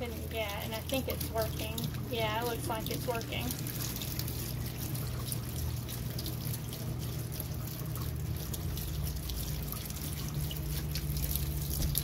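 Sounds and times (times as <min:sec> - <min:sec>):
low steady hum: 0:00.0 - 0:12.0
tap water splashing into sink: 0:00.0 - 0:12.0.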